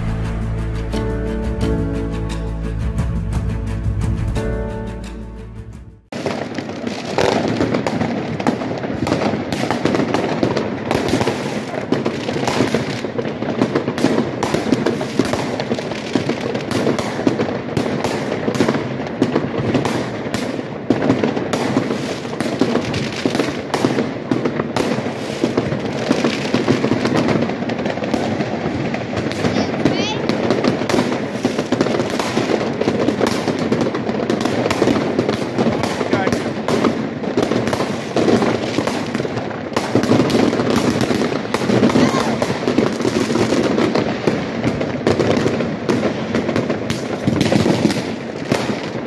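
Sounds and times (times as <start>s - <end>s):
fireworks bangs and crackling: 0.0s - 4.6s, 6.0s - 49.0s.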